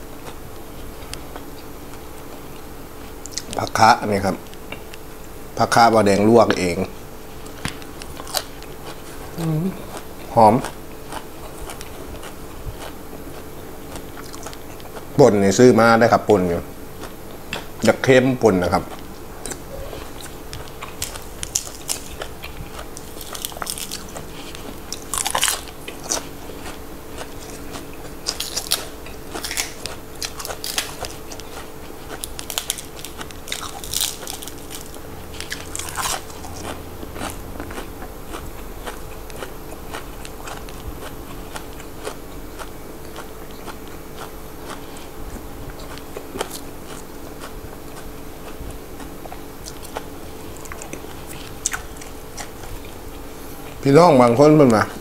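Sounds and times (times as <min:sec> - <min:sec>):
person chewing crunchy vegetables: 0:00.0 - 0:55.0.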